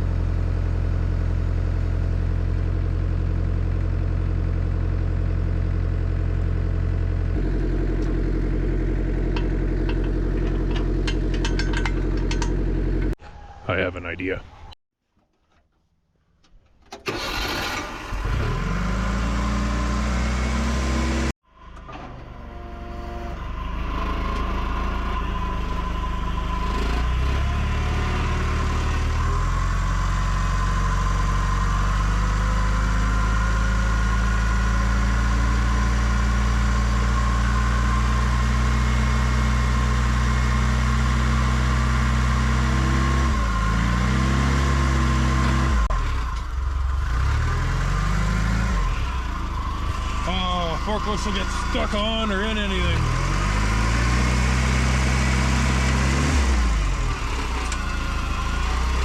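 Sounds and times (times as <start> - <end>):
forklift engine running: 0.0 - 13.2, 16.9 - 59.0.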